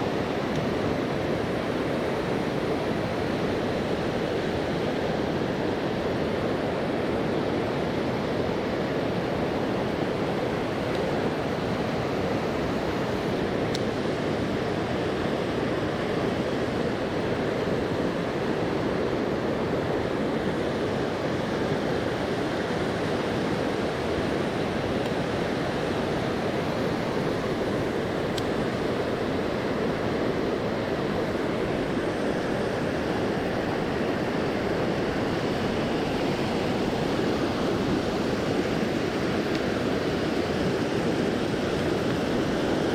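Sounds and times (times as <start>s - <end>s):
flowing river water: 0.0s - 42.9s.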